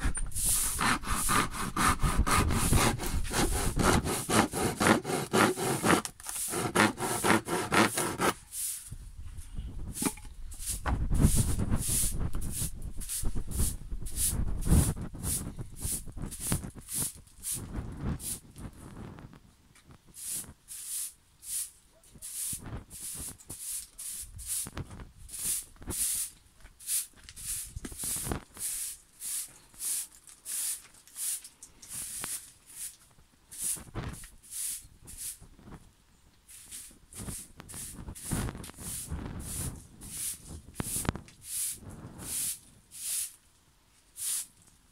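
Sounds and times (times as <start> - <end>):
broom sweeping concrete: 0.0 - 9.0, 9.8 - 18.6, 20.1 - 35.5, 36.5 - 44.8.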